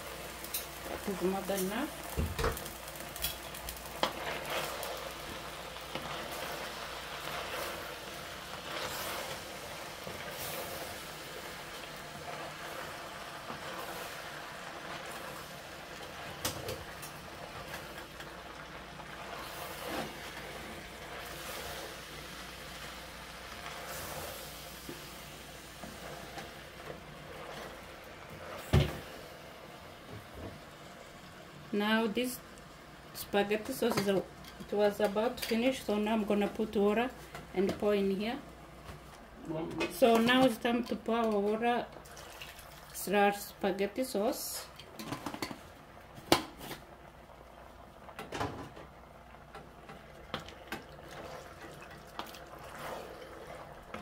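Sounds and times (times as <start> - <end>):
vegetables sizzling in a pot: 0.0 - 54.0.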